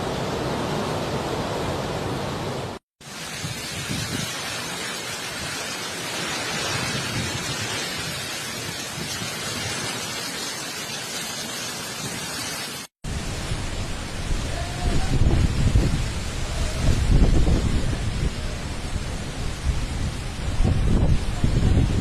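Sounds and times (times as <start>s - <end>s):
wind and rain hiss: 0.0s - 22.0s.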